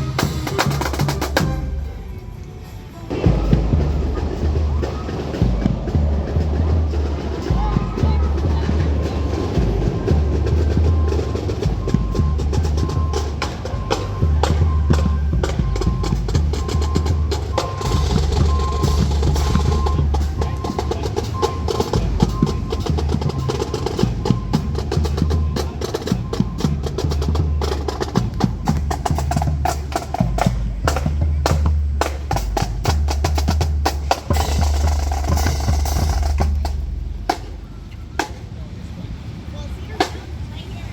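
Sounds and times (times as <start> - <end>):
fast snare drum strokes: 0.0 - 2.0, 3.2 - 38.5
bass drum beat: 0.0 - 2.4, 3.2 - 38.5
marching band playing: 0.0 - 40.7.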